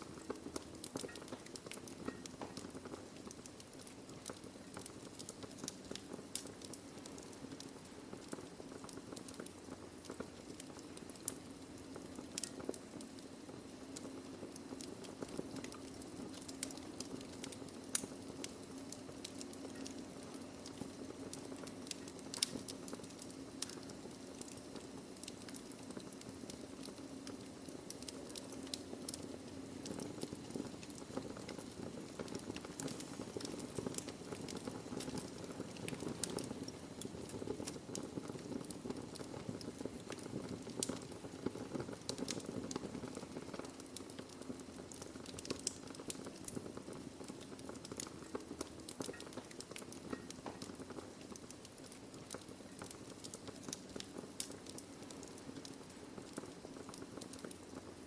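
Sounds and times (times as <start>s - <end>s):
logs crackling and popping: 0.0s - 58.0s
low rushing hiss of fire: 0.0s - 58.0s.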